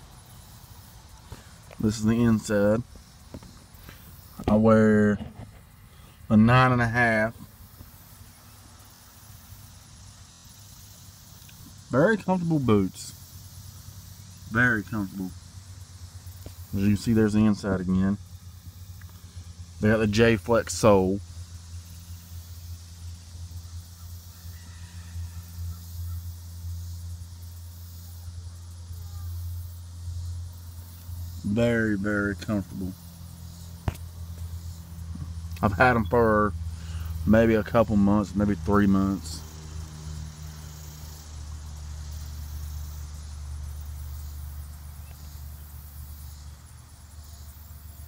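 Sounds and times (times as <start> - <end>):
insect drone: 0.0 - 48.0
low mechanical hum: 0.0 - 48.0
faint chirps: 7.2 - 48.0.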